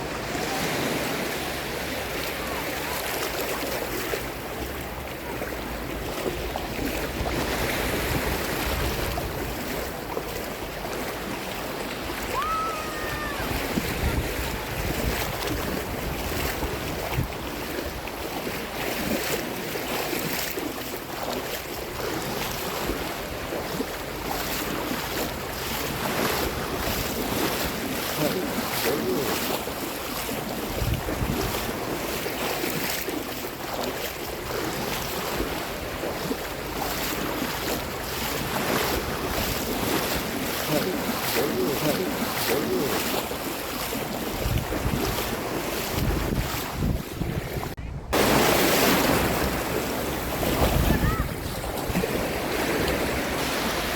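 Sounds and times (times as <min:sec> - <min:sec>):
seawater splashing in small waves: 0:00.0 - 0:53.9
wind rumbling on microphone: 0:04.2 - 0:53.9.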